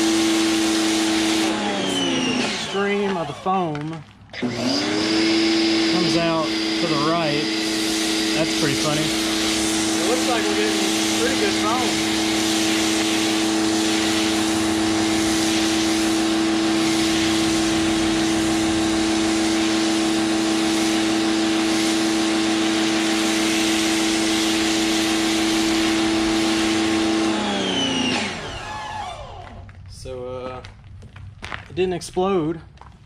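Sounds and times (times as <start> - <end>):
foam spray hissing: 0.0 - 3.3, 5.2 - 28.9
pressure washer humming: 0.0 - 29.8.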